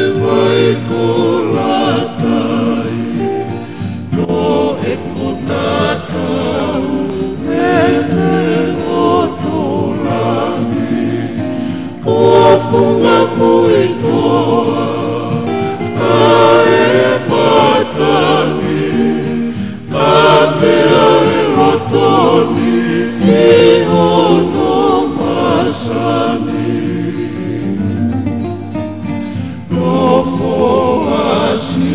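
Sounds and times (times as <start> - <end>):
group singing in harmony: 0.0 - 28.4, 29.0 - 31.9
guitar: 0.0 - 31.9.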